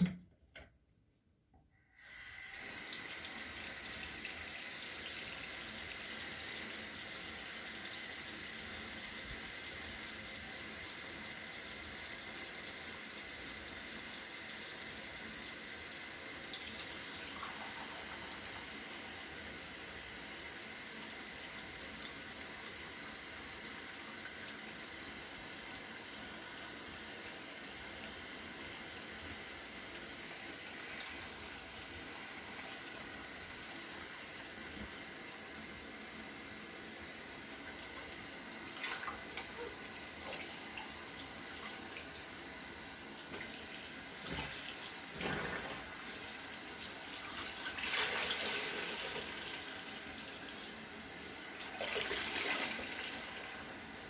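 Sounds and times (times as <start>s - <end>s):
tap water running into a sink: 2.0s - 54.0s.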